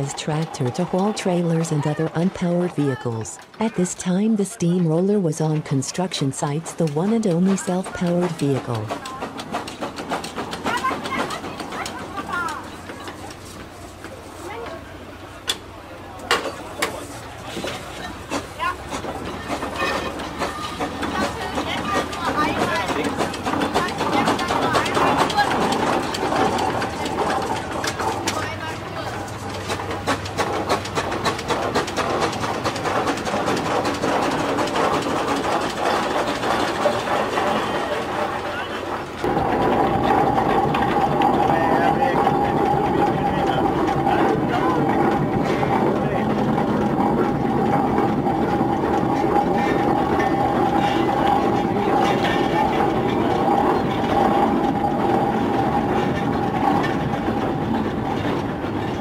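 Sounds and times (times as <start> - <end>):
steady mechanical tone: 0.0 - 59.0
steam roller engine clattering: 0.0 - 59.0.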